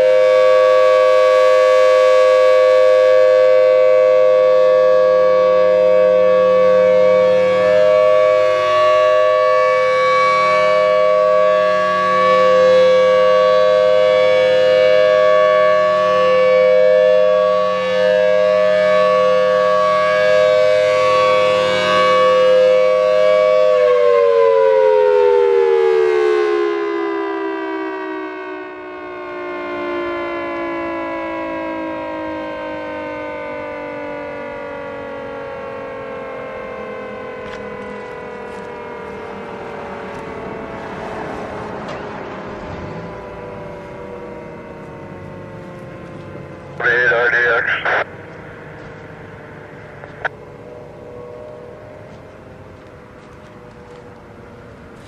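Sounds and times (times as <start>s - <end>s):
outdoor warning siren: 0.0s - 55.0s.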